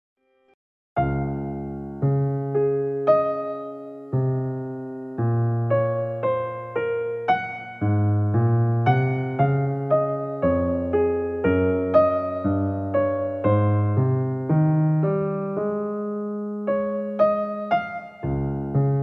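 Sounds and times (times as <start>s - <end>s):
gentle keyboard melody: 1.0s - 19.0s.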